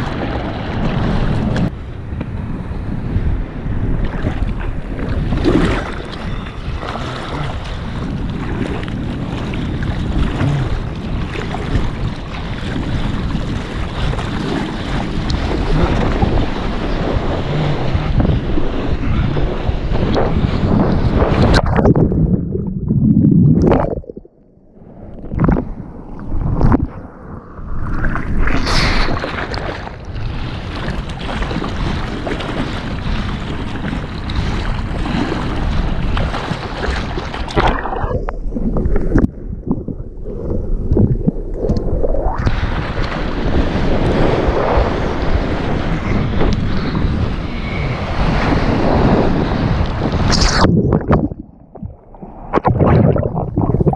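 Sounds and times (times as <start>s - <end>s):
wind buffeting microphone: 0.0s - 53.9s
water rushing and splashing: 4.0s - 27.1s, 27.8s - 46.9s, 47.6s - 53.9s.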